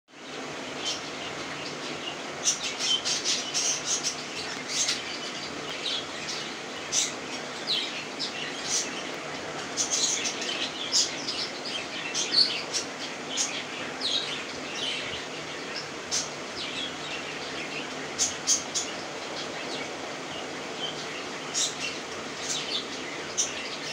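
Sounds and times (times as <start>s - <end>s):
budgerigars chirping: 0.7s - 23.9s.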